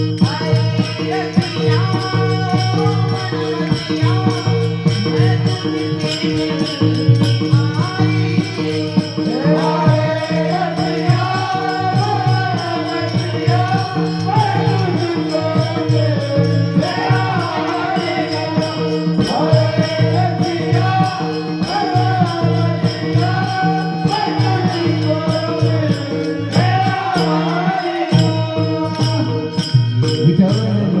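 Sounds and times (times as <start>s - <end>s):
jingling percussion beat: 0.0s - 31.0s.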